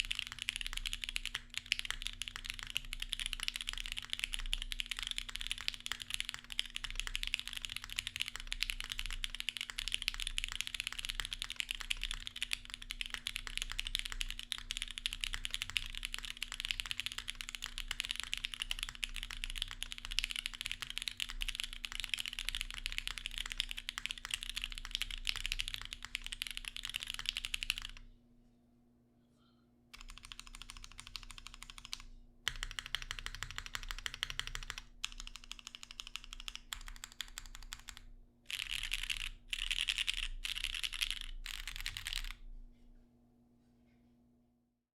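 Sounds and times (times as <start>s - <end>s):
fast typing on mechanical keyboard: 0.0s - 28.0s, 30.0s - 42.4s.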